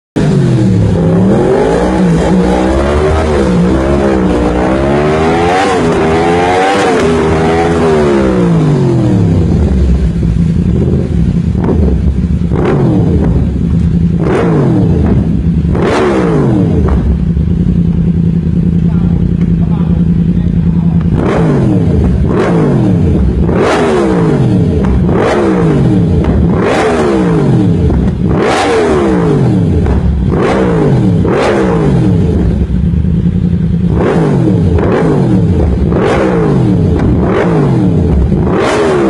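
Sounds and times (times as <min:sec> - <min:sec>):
motorcycle engine revving and idling: 0:00.2 - 0:39.0.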